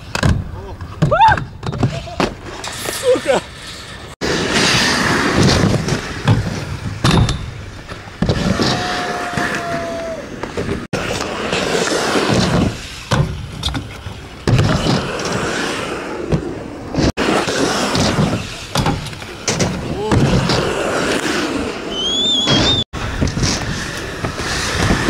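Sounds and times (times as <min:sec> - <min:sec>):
skateboard wheels rolling on asphalt: 0:00.0 - 0:25.0.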